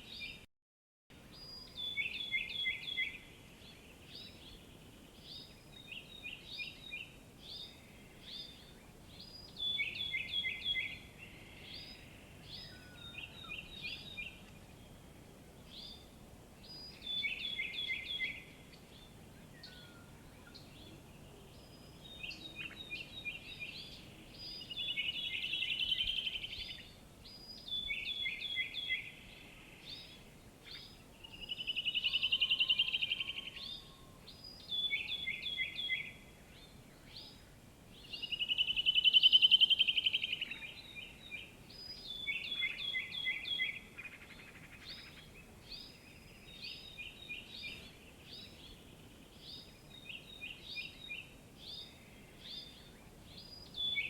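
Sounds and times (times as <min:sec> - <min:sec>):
faint background hiss: 0:01.1 - 0:54.0
birds chirping: 0:01.3 - 0:54.0.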